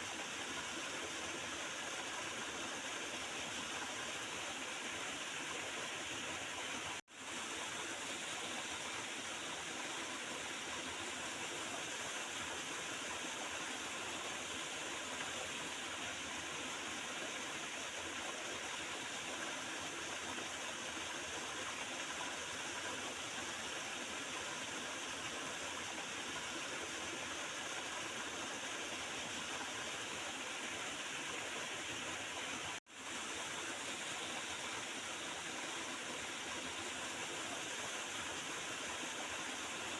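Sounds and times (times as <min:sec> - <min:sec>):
small river flowing and gurgling: 0:00.0 - 0:39.9.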